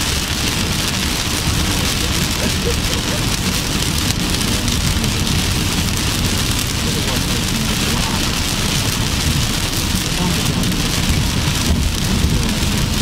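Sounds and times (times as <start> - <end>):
heavy rain on a car: 0.0 - 13.0
low rumble: 0.0 - 13.0.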